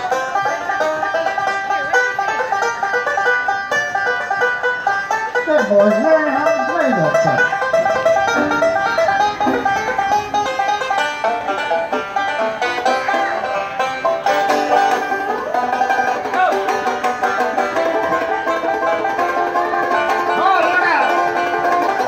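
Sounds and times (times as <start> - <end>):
banjos picking fast bluegrass: 0.0 - 22.0.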